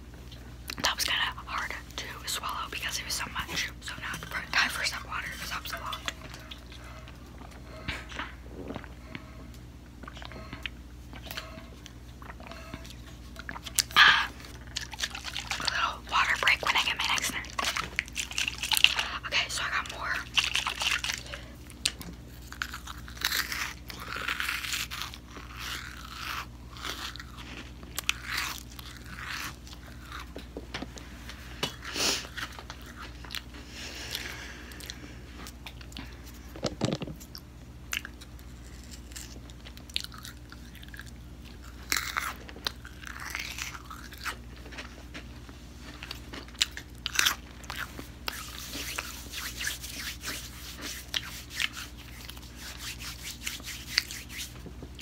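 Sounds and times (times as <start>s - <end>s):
crunchy snack being chewed: 9.8s - 36.5s, 37.2s - 55.0s.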